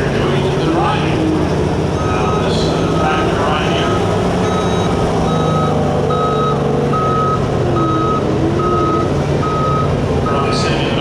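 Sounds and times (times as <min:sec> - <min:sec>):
engine running: 0:00.0 - 0:11.0
reversing alarm beeping: 0:01.1 - 0:10.9.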